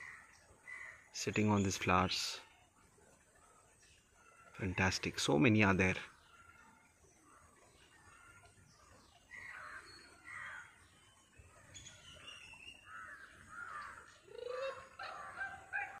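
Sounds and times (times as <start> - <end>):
wild birds calling: 0.0 - 16.0.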